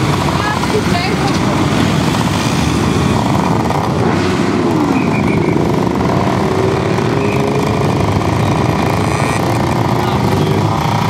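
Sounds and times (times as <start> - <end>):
motorcycle and scooter engines revving: 0.0 - 11.0.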